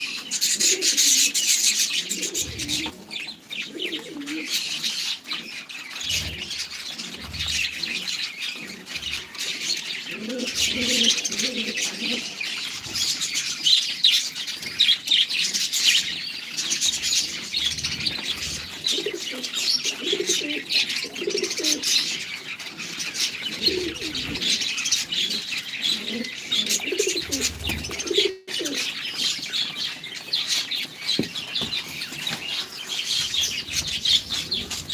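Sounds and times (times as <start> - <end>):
birds cooing: 0.0 - 34.9
small birds chirping: 0.0 - 34.9.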